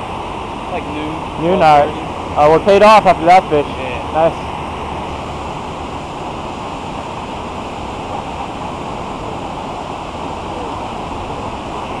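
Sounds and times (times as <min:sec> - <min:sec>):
water rushing over dam: 0:00.0 - 0:12.0.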